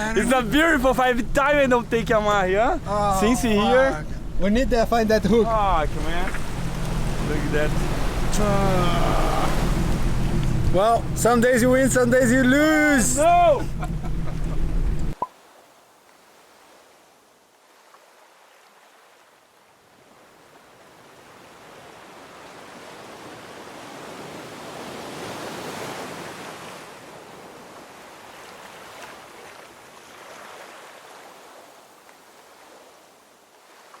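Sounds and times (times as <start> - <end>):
sea water rushing: 0.0 - 34.0.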